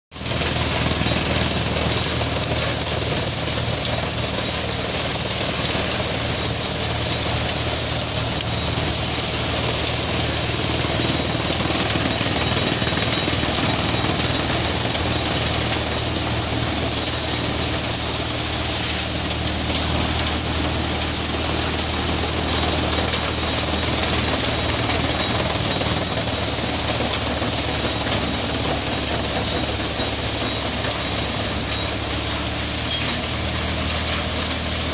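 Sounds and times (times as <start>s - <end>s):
thresher machine drone: 0.2s - 34.9s.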